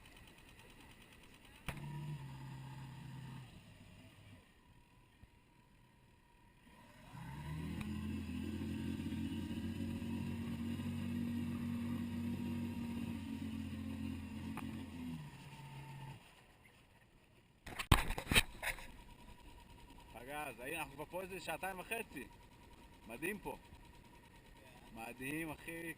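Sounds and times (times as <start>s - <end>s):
boat engine running: 0.0s - 5.1s, 5.9s - 25.9s.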